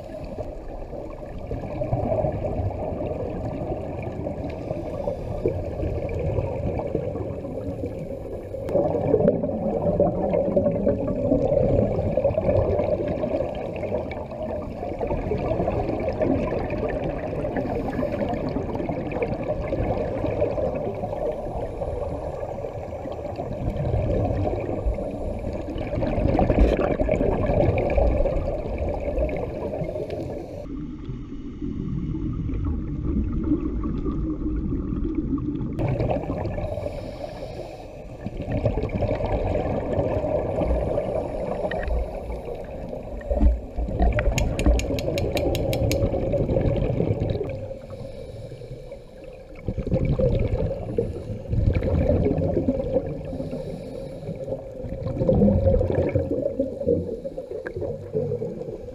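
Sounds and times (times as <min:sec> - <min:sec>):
underwater bubbling: 0:00.0 - 0:58.9.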